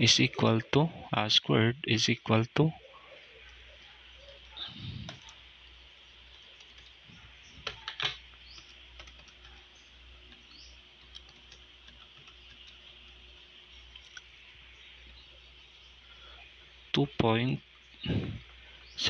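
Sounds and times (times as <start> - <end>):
low hiss and hum: 0.0 - 19.0.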